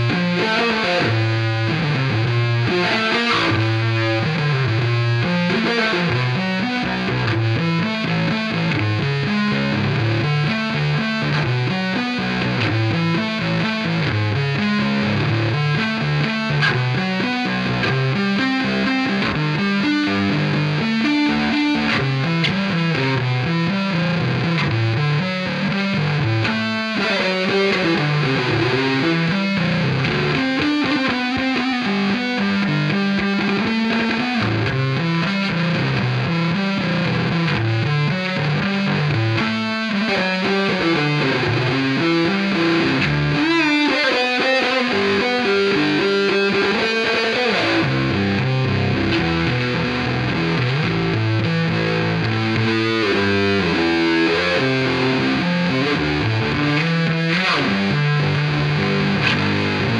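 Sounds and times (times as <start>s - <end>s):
distorted electric bass solo: 0.0s - 59.9s.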